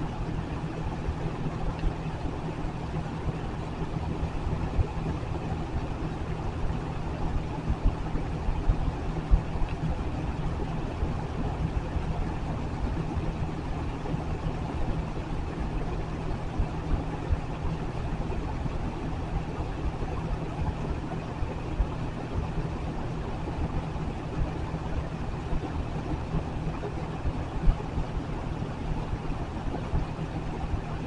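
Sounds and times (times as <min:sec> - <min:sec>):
low motor hum: 0:00.0 - 0:31.0.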